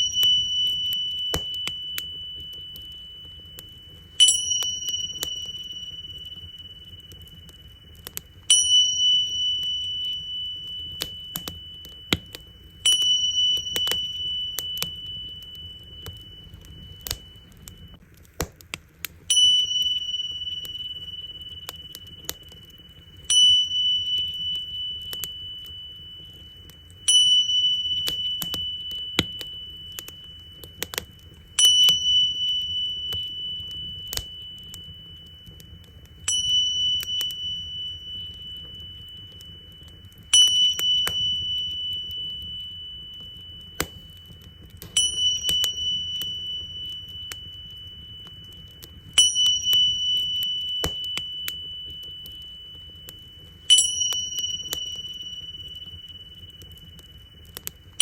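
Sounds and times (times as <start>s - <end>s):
tingsha cymbals ringing: 0.0s - 18.0s, 19.2s - 58.0s
campfire crackling: 0.1s - 19.9s, 20.5s - 58.0s.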